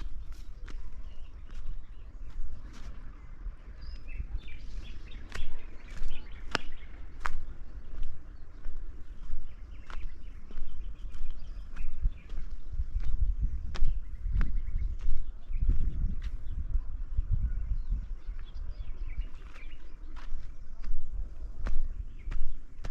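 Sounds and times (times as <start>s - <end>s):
faint bird chirps: 0.0s - 22.9s
steady low rumble: 0.0s - 22.9s.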